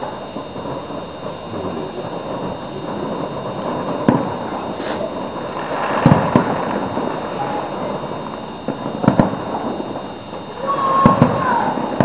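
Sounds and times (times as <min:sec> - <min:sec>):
distant fireworks bangs: 0:00.0 - 0:12.0
firework hiss: 0:00.0 - 0:12.0
steady background noise: 0:00.0 - 0:12.0.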